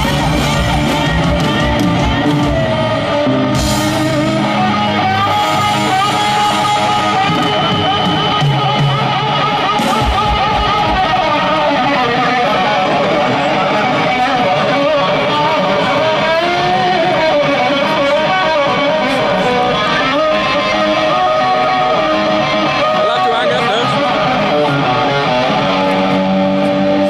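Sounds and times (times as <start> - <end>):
electric guitar bending notes: 0.0 - 27.0
rock band playing live: 0.0 - 27.0.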